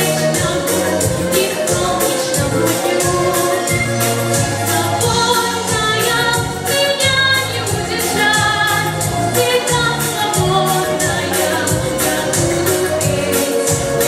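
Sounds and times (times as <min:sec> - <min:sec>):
backing track with steady beat: 0:00.0 - 0:14.0
woman singing pop song: 0:00.0 - 0:14.0.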